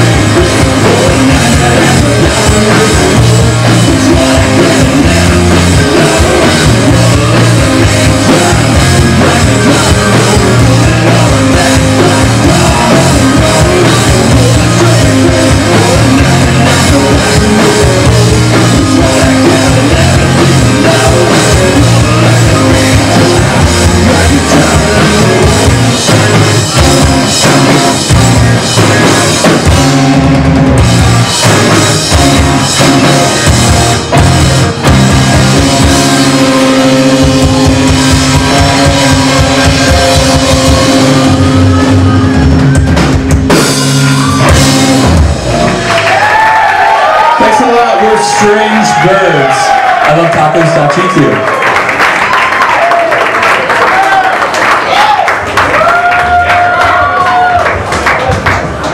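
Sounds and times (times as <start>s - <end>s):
driving drums: 0.0s - 52.0s
live rock band playing: 0.0s - 54.2s.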